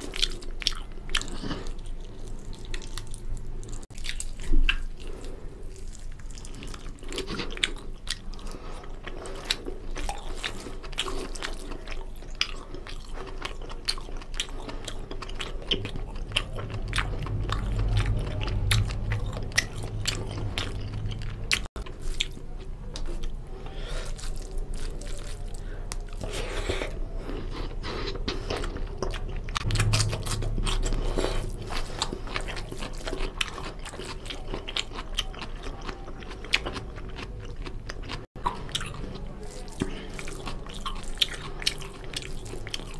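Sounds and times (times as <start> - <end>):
wet chewing mouth sounds: 0.0 - 42.9.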